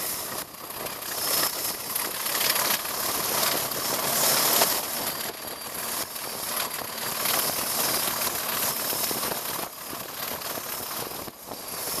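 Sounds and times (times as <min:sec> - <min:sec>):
diesel locomotive engine: 0:00.0 - 0:12.0
wind rush: 0:00.0 - 0:12.0.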